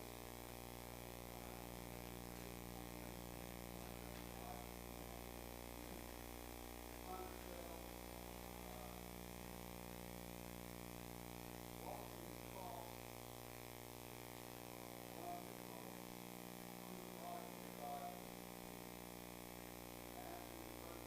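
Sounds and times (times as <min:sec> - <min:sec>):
electrical hum and buzz: 0:00.0 - 0:21.0.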